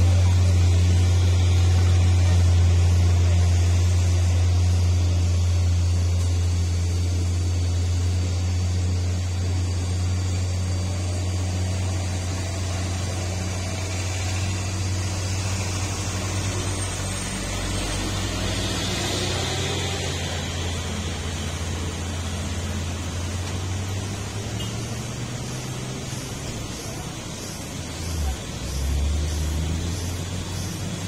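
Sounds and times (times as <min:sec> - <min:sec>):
pickup engine droning uphill: 0:00.0 - 0:31.0.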